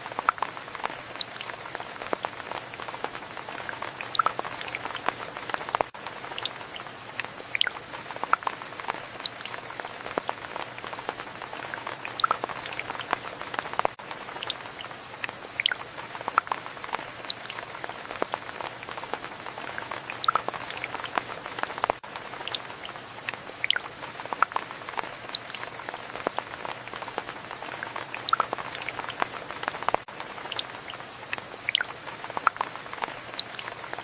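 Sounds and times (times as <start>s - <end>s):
rain drops pattering: 0.0s - 34.0s.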